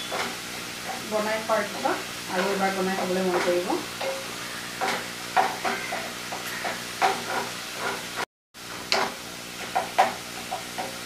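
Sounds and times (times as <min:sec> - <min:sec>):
spatula scraping and tapping pan: 0:00.0 - 0:08.2, 0:08.9 - 0:11.0
spices sizzling in oil: 0:00.0 - 0:11.0.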